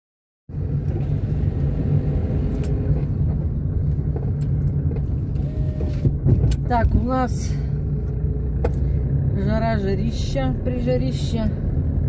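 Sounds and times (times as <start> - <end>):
car interior engine rumble: 0.5 - 12.0.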